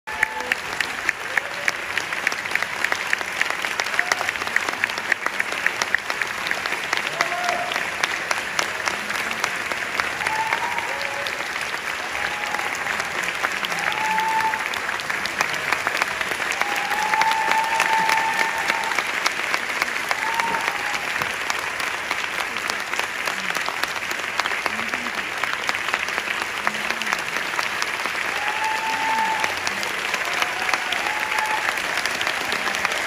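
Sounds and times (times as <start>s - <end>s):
audience applauding: 0.1s - 33.0s
audience calls: 0.1s - 33.0s.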